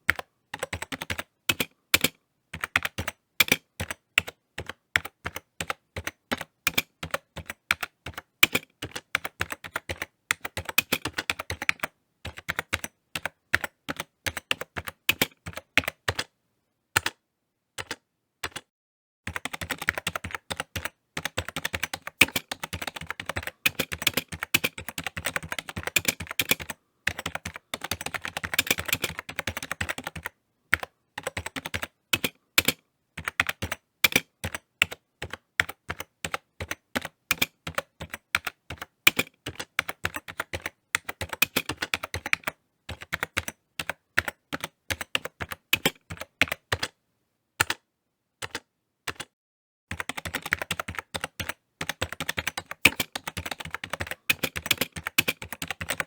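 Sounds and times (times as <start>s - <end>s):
typing on computer keyboard: 0.0s - 16.3s, 17.0s - 17.2s, 17.8s - 18.7s, 19.3s - 47.0s, 47.6s - 47.8s, 48.4s - 56.0s.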